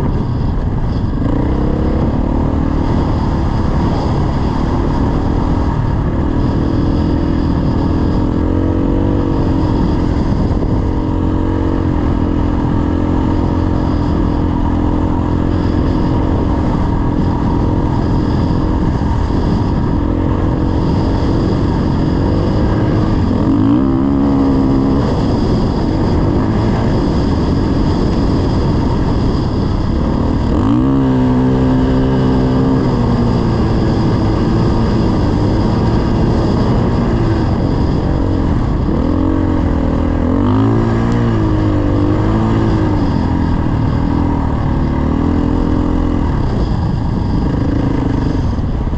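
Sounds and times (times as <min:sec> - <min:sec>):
dirt bike engine running: 0:00.0 - 0:48.9
low rushing noise: 0:00.0 - 0:48.9.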